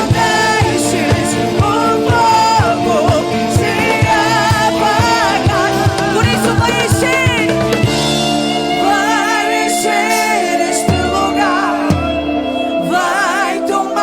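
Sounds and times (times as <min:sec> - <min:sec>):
person singing: 0:00.0 - 0:14.0
sustained keyboard chords: 0:00.0 - 0:14.0.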